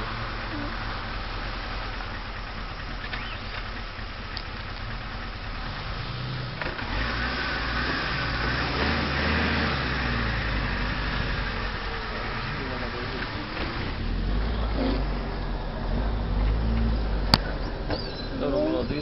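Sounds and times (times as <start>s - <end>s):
suv engine under load: 0.0s - 19.0s.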